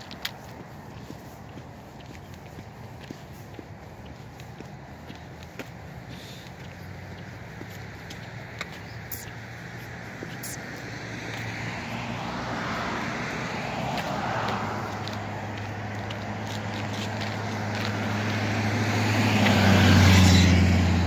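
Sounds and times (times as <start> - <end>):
car passing: 0.0 - 21.0
vehicle with deep engine hum passing: 0.0 - 21.0.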